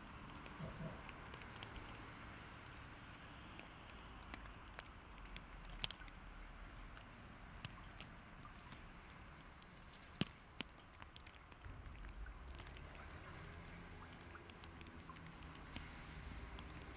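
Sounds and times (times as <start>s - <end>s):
light ticks: 0.0s - 16.9s
soft hiss: 0.0s - 16.9s.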